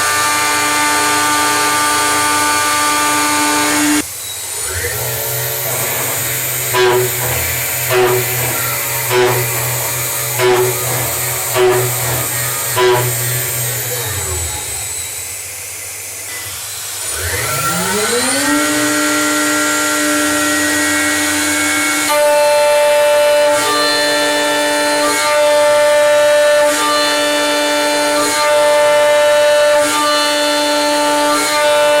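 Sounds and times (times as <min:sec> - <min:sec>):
mill spindle motor whine: 0:00.0 - 0:32.0.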